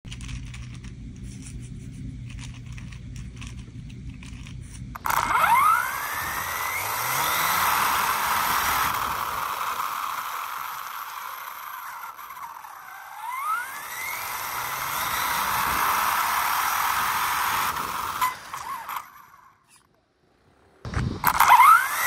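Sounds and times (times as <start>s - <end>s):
rc car motor whine: 4.2s - 22.0s.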